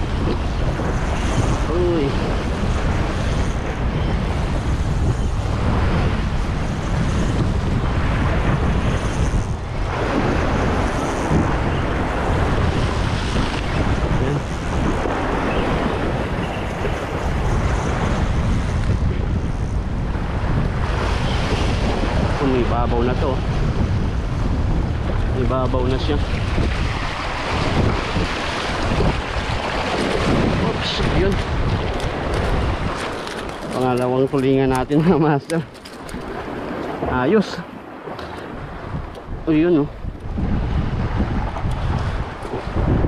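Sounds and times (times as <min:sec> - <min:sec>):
sea waves: 0:00.0 - 0:43.0
wind buffeting microphone: 0:00.0 - 0:43.0.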